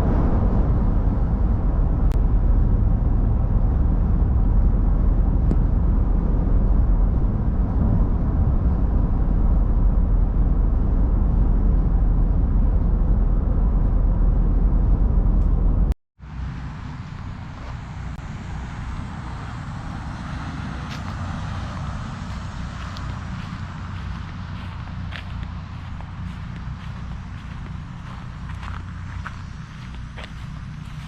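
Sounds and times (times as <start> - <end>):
storm wind buffeting microphone: 0.0 - 31.0.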